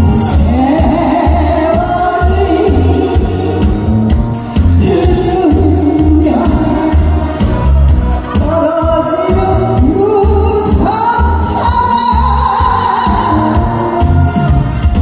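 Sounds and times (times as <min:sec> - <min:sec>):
amplified accompaniment with bass beat: 0:00.0 - 0:15.0
woman singing into a microphone: 0:00.2 - 0:07.8, 0:08.4 - 0:14.0.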